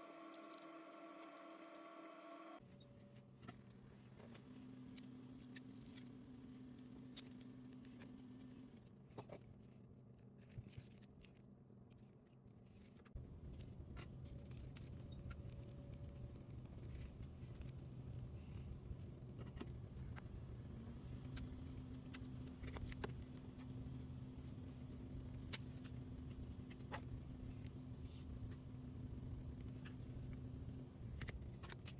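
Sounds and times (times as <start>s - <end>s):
steady low hum: 0.0s - 10.3s, 12.8s - 31.9s.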